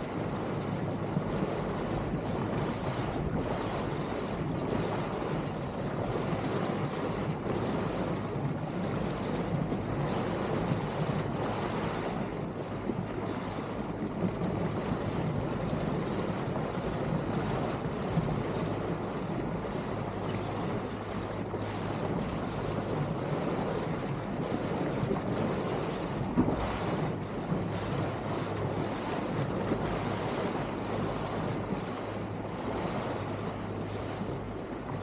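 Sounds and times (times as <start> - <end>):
low boat engine drone: 0.0 - 35.0
rush of wind and water: 0.0 - 35.0
wind buffeting microphone: 0.0 - 35.0.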